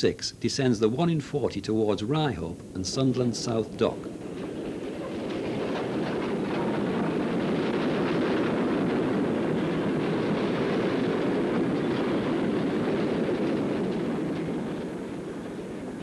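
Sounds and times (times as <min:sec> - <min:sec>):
rumble of wheels and wagons: 0:00.0 - 0:16.0
steam train rumbling past: 0:00.0 - 0:16.0.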